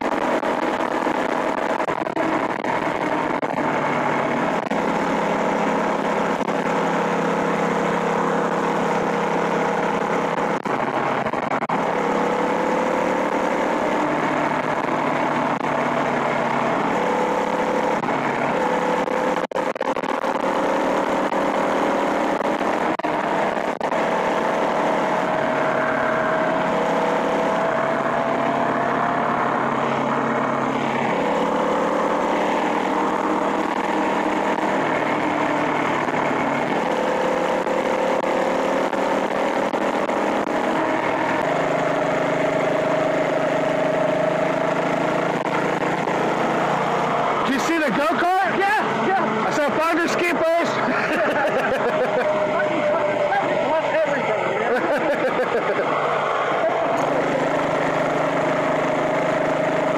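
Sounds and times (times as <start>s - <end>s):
steady rush of noise: 0.0s - 59.9s.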